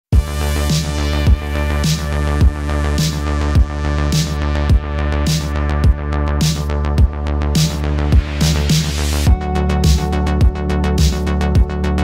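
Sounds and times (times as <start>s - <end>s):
kick drum and clap beat: 0.1s - 11.8s
synth chords and bass: 0.1s - 12.0s.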